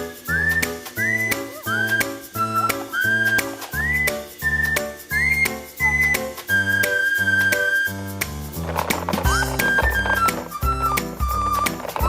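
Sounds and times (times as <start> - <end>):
whistled melody music: 0.0 - 12.0.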